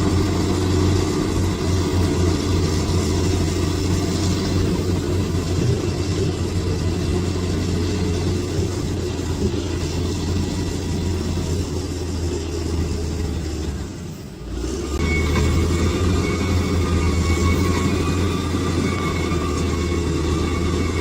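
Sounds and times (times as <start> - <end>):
bulldozer diesel engine rumbling: 0.0 - 21.0.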